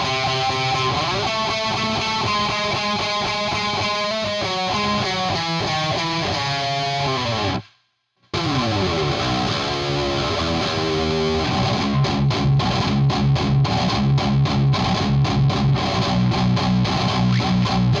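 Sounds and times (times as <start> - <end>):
distorted electric guitar riff: 0.0 - 7.7, 8.3 - 18.0.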